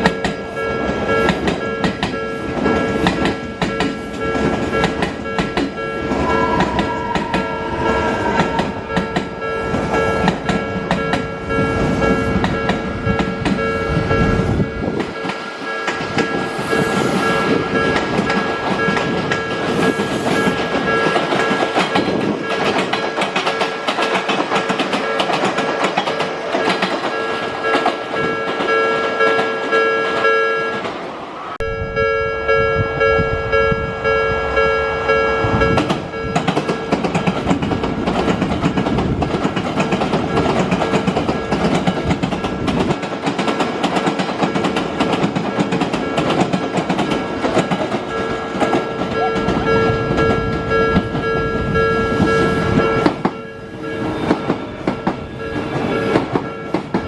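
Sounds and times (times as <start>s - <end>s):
level-crossing alarm ringing: 0.0s - 30.9s, 31.5s - 37.4s, 40.0s - 42.7s, 44.4s - 57.0s
train wheels clattering on rail joints: 0.0s - 31.0s, 35.5s - 57.0s.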